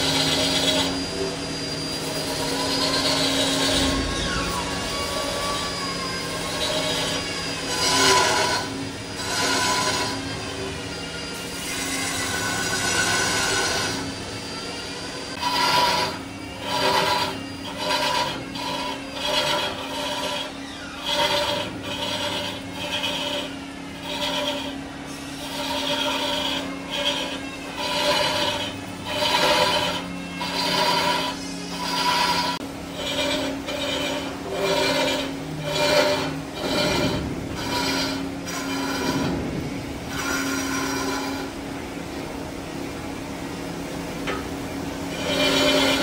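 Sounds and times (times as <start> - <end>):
sanding pad rasping on spinning wood: 0.0 - 10.9, 11.7 - 14.2, 15.3 - 41.6, 45.0 - 46.0
lathe hum: 0.0 - 46.0.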